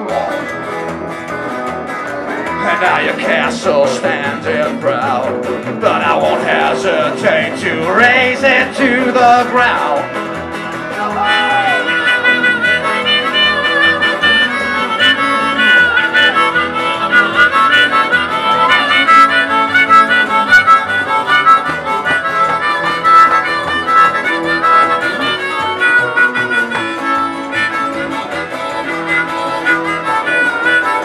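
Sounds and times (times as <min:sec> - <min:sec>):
guitar: 0:00.0 - 0:31.0
harmonica: 0:00.0 - 0:31.0
upright double bass: 0:00.0 - 0:31.0.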